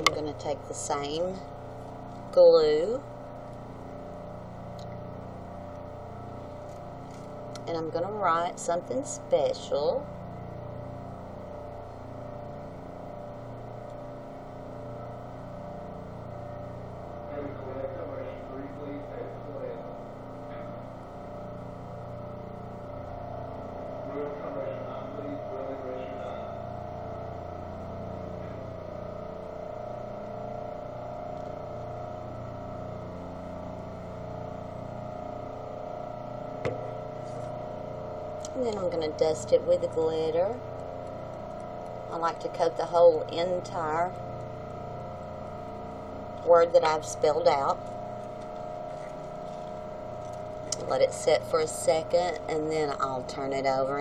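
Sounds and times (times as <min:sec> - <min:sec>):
mechanical hum with held tones: 0:00.0 - 0:54.0.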